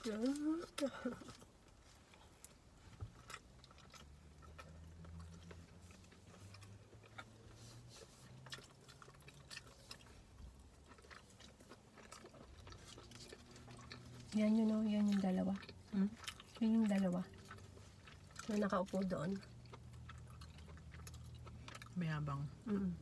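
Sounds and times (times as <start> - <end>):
people chewing: 0.0 - 23.0.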